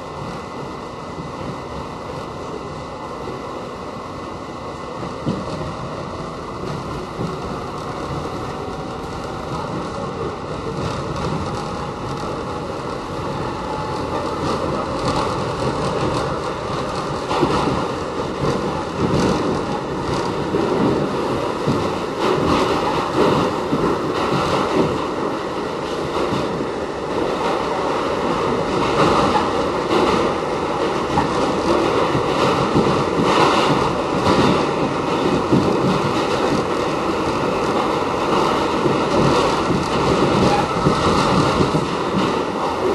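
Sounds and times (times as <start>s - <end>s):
subway car wheels rumbling on rail: 0.0s - 42.9s.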